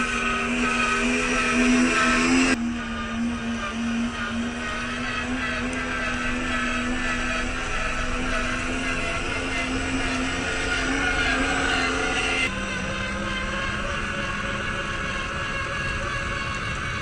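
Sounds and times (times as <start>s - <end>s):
rc car motor whining: 0.0s - 17.0s.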